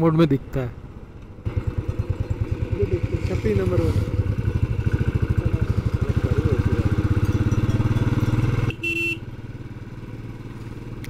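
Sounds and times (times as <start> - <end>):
motorcycle engine revving: 1.4 - 11.0.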